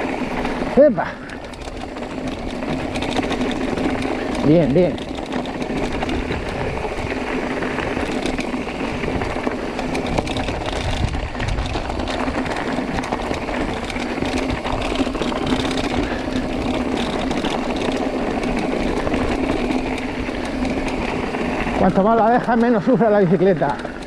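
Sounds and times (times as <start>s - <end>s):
bike rattling over rocks: 0.0s - 24.0s
tyres crunching over stones: 0.0s - 24.0s.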